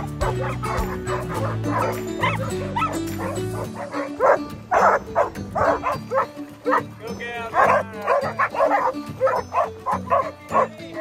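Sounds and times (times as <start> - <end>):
background music: 0.0 - 11.0
dogs barking and yipping: 0.0 - 11.0.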